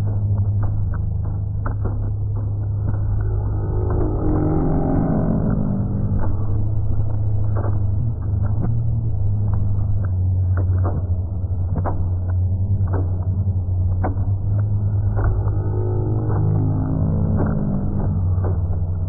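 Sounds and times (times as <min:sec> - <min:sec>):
low rumbling electronic drone: 0:00.0 - 0:19.0
sharp clicks and crackles: 0:00.0 - 0:19.0.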